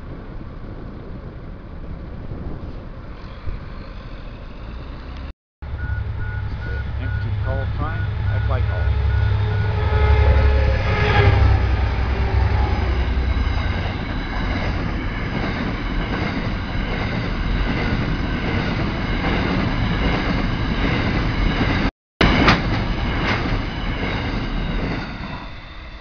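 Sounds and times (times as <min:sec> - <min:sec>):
train wagons rumbling and clattering: 0:00.0 - 0:26.0
locomotive engine: 0:00.1 - 0:21.8.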